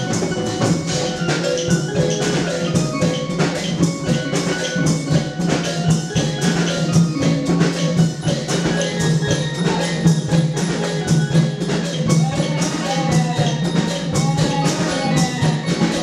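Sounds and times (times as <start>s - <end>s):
fast drum and percussion beat: 0.0s - 16.0s.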